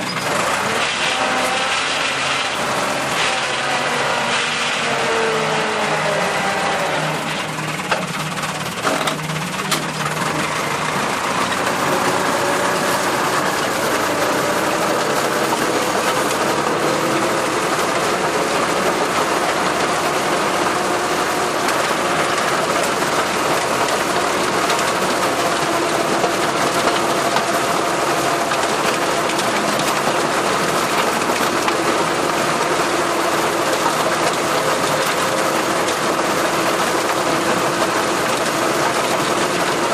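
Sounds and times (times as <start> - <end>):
tractor engine clattering: 0.0 - 39.9.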